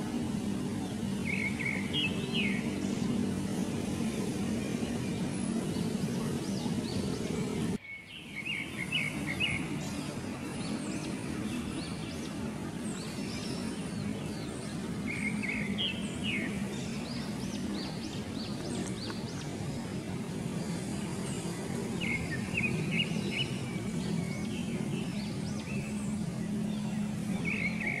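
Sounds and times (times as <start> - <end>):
birds chirping: 0.0 - 28.0
low background hum: 0.0 - 28.0.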